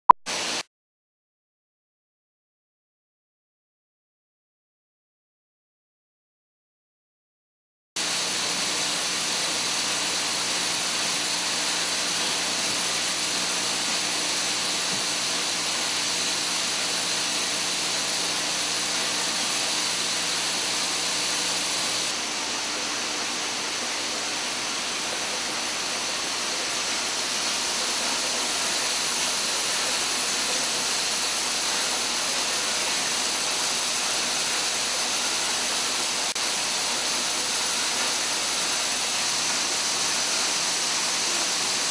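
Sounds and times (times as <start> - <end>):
hissing machine noise: 8.0 - 41.9.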